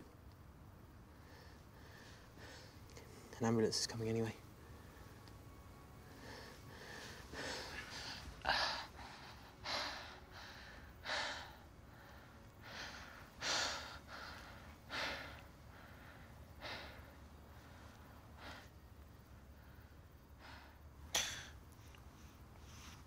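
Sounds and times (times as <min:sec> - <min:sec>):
faint background hum: 0:00.0 - 0:23.0.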